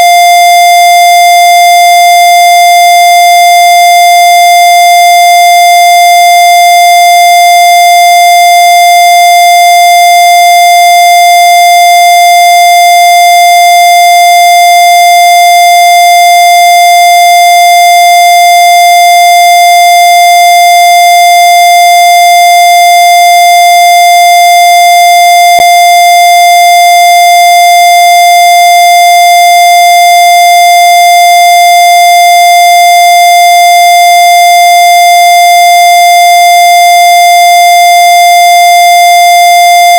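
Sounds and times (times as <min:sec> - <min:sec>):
loud steady electronic tone: 0:00.0 - 0:39.9.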